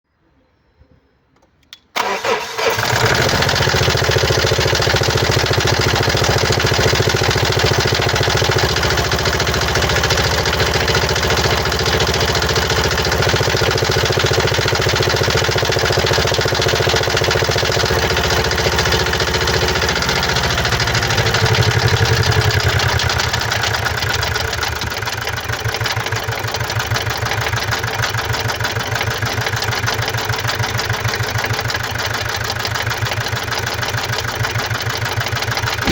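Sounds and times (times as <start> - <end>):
diesel engine idling with knocking: 2.8 - 35.9.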